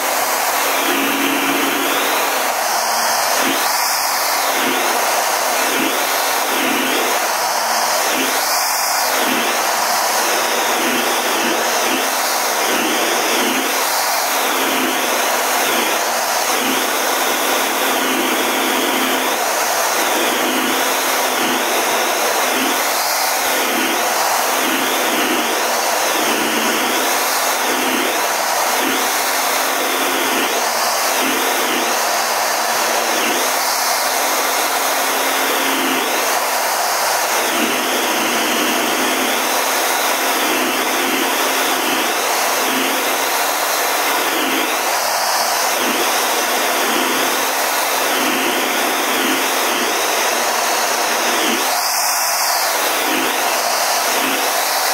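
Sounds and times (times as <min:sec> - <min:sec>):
jet engine and airflow rushing: 0:00.0 - 0:18.0, 0:19.2 - 0:37.7, 0:43.2 - 0:54.9.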